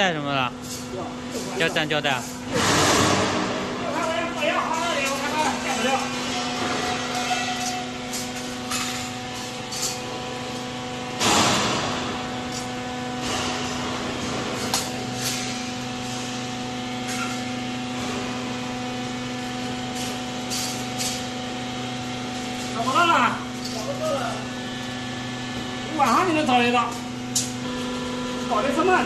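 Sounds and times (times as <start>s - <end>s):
electrical machinery hum: 0.0s - 29.0s.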